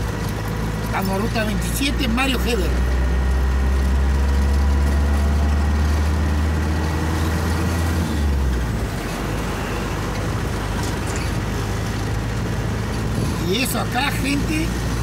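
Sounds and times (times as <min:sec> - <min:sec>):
tyre road noise: 0:00.0 - 0:15.0
vehicle engine drone: 0:00.0 - 0:15.0.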